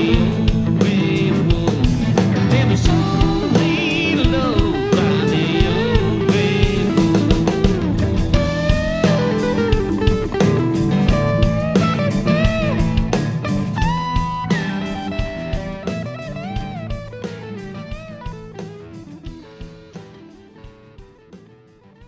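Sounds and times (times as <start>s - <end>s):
lead electric guitar bending notes: 0.0s - 21.6s
bass guitar: 0.0s - 22.0s
drums: 0.0s - 22.0s.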